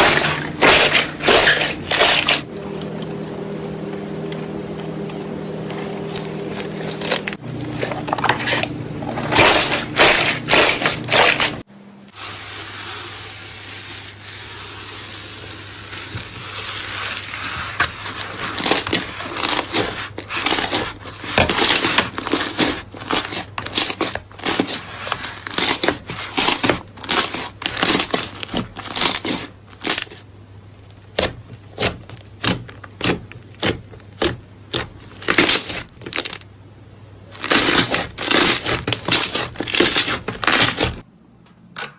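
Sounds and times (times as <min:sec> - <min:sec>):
slime squishing by hand: 0:00.0 - 0:02.5, 0:05.6 - 0:11.6, 0:12.7 - 0:30.3, 0:30.9 - 0:36.4, 0:37.3 - 0:41.0
low steady hum: 0:00.0 - 0:41.9.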